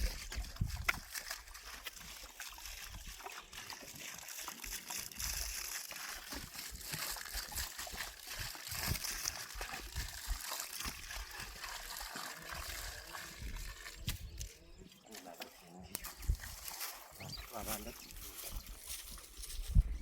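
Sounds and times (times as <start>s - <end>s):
water trickling onto soil: 0.0s - 19.9s.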